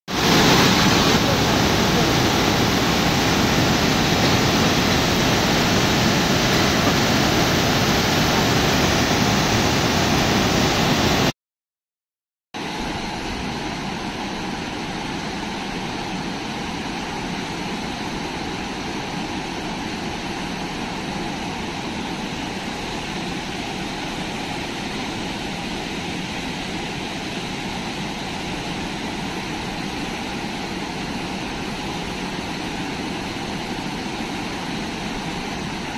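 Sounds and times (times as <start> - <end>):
waterfall roaring: 0.1 - 11.3, 12.6 - 35.9.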